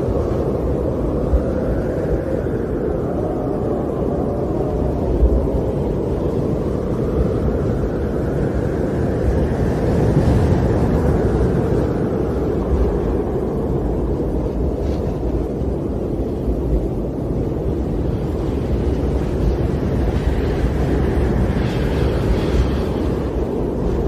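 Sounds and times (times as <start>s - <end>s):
storm wind blowing: 0.0s - 24.0s.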